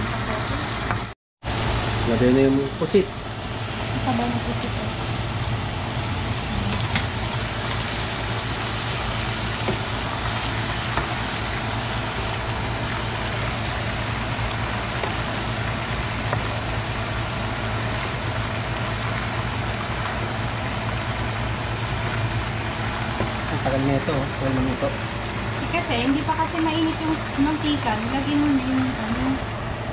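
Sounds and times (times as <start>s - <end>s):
squid sizzling in frying pan: 0.0s - 29.4s
low steady hum: 1.5s - 29.9s.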